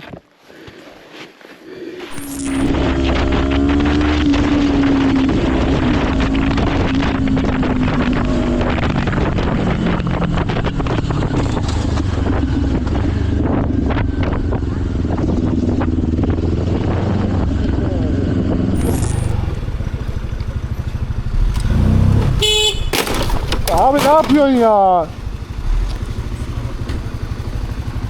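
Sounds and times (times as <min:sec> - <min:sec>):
motorcycle engine running: 0:02.1 - 0:28.0.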